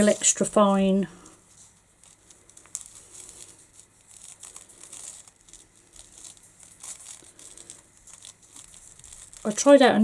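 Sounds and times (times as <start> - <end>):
paper and card rustling: 0.0 - 0.8, 1.5 - 10.0.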